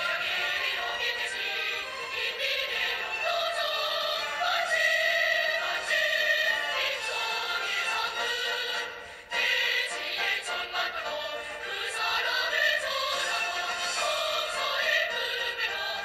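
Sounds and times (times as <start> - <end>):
choir singing from a television: 0.0 - 16.0.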